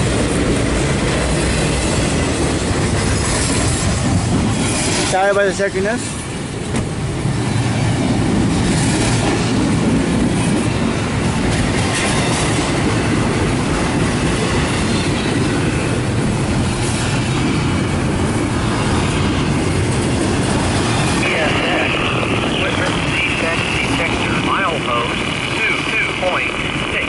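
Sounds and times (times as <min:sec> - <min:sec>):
freight train wheels on track: 0:00.0 - 0:27.0.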